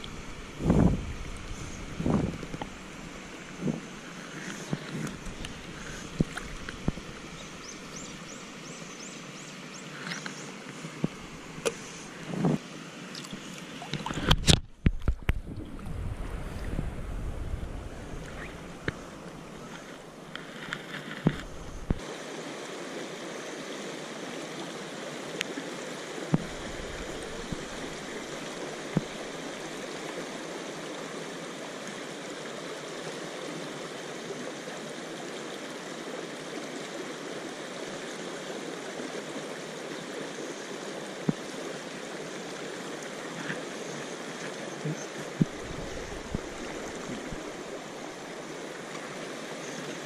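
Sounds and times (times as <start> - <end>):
river water rushing over rocks: 0.0 - 50.0.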